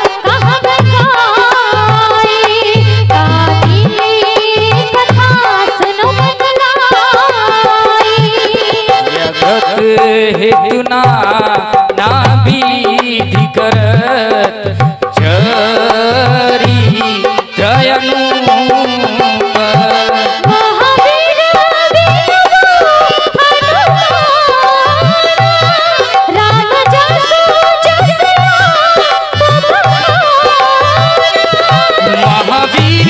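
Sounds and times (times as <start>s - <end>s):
dholak drum beat: 0.0s - 33.0s
harmonium melody: 0.0s - 33.0s.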